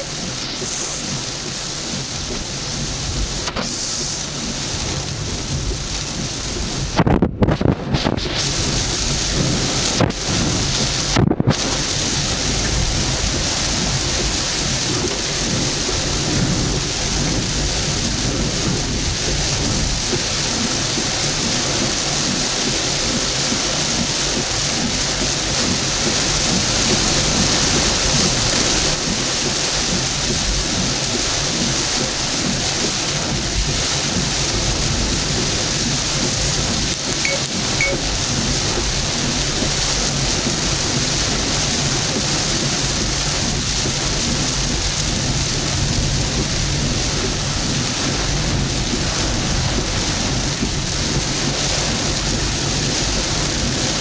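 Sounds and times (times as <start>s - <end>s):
heavy rain on a vehicle: 0.0s - 54.0s.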